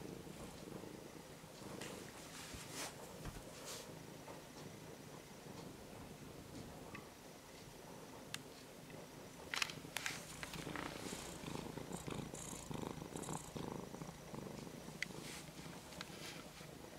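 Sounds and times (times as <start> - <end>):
cat purring: 0.0 - 7.0, 8.7 - 16.9.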